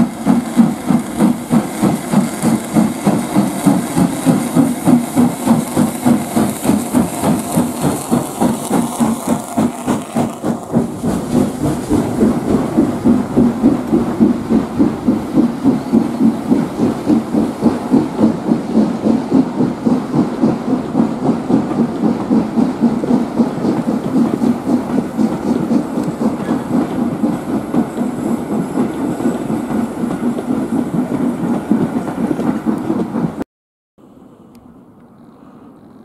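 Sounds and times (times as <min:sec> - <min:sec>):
steam hiss: 0:00.0 - 0:32.8
steam locomotive chuffing: 0:00.0 - 0:33.4
train coaches rolling by: 0:00.0 - 0:33.4.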